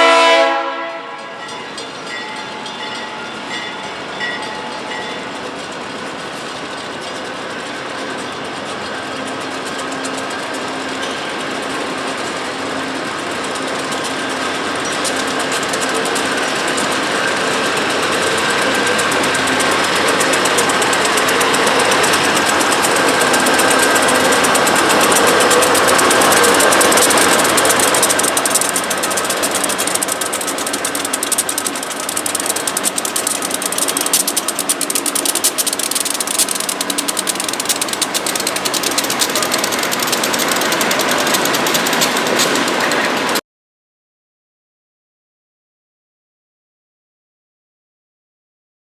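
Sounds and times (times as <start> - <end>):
diesel locomotive engines: 0.0 - 43.4
train wheels clattering on rails: 0.0 - 43.4.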